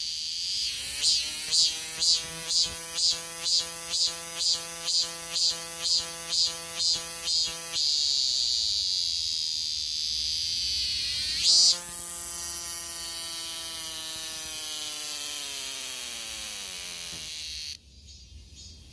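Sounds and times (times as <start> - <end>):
cicada buzzing: 0.0 - 17.8.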